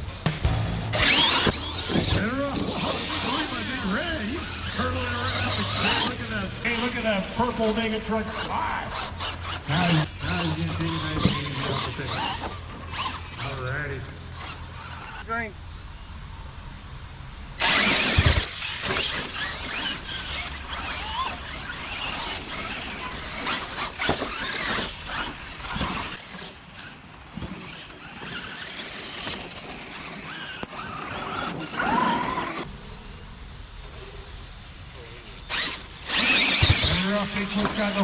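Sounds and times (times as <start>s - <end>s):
toy truck motors whining: 0.9s - 15.4s, 17.6s - 38.0s.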